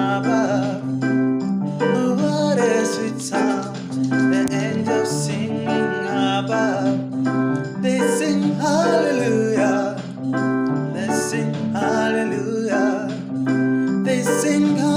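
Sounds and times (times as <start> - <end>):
held keyboard chords: 0.0 - 14.9
person singing with vibrato: 0.0 - 14.9.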